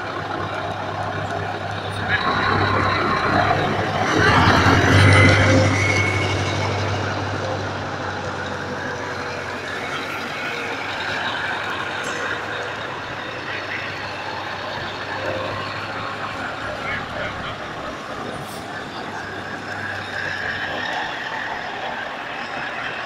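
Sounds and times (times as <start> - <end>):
diesel trucks driving past: 0.0 - 23.0.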